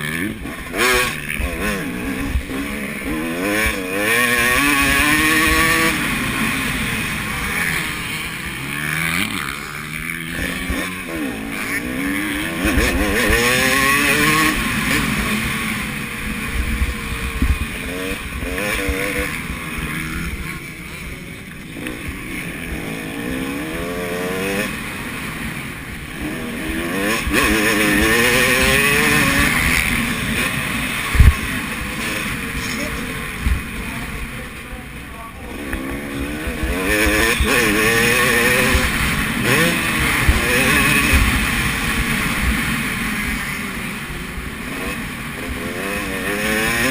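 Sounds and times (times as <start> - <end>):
motocross bike engines revving: 0.0 - 46.9.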